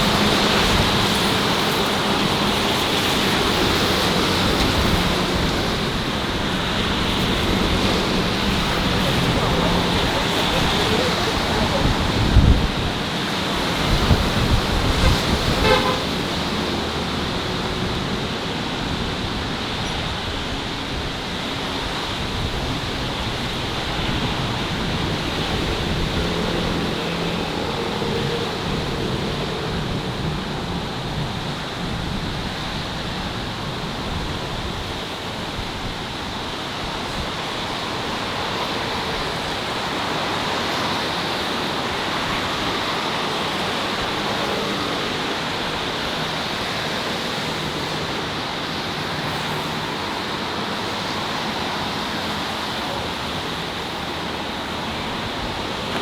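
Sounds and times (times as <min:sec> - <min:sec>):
passing traffic rush: 0:00.0 - 0:56.0.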